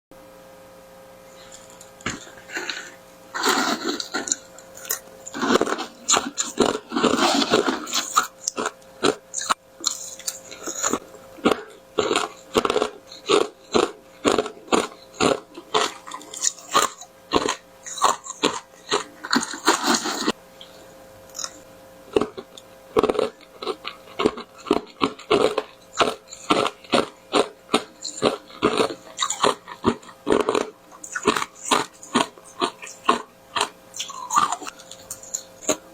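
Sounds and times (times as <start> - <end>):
crunching hard grains: 1.4 - 35.9.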